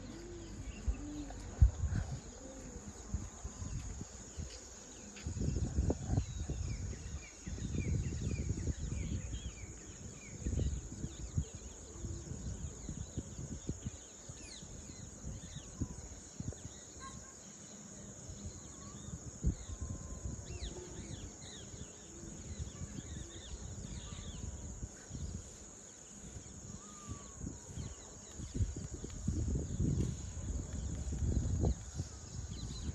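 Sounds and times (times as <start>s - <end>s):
birds chirping: 0.0s - 32.9s
insects droning: 0.0s - 32.9s.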